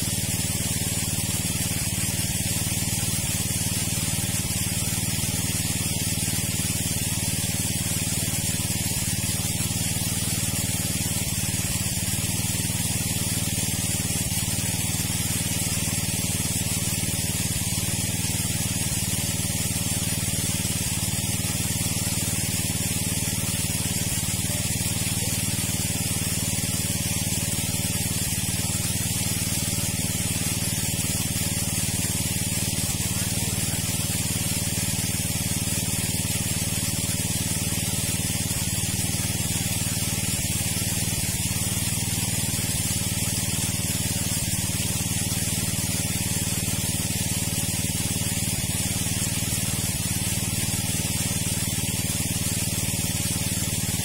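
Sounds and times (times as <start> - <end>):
water pump engine hum: 0.0 - 54.0
water rushing out: 0.0 - 54.0.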